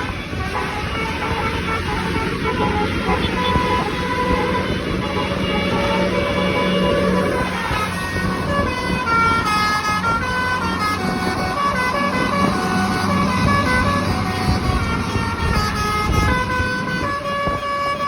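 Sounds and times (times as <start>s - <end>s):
multi-tone bus horn melody: 0.0s - 18.0s.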